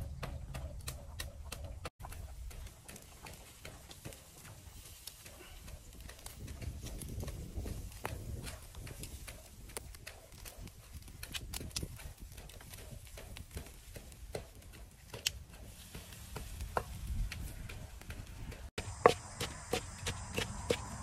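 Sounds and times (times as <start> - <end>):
meat crackling on grill: 2.3 - 21.0.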